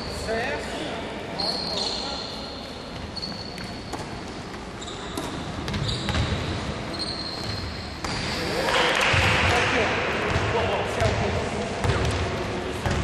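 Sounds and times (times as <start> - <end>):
sneakers squeaking: 1.3 - 9.4, 10.3 - 13.0.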